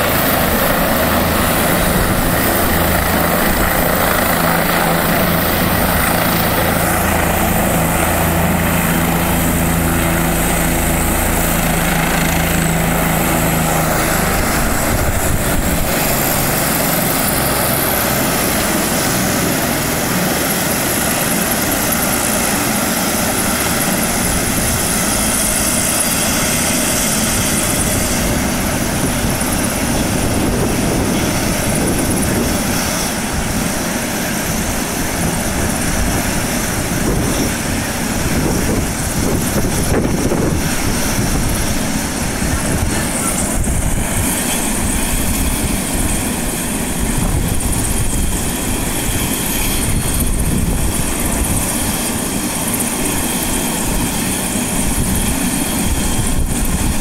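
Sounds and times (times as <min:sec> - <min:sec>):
helicopter rotor chop: 0:00.0 - 0:57.0
turbine whine: 0:00.0 - 0:57.0.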